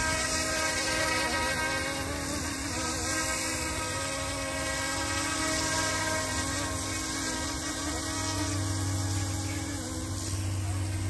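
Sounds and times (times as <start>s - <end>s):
whine of steady tones: 0.0s - 11.0s.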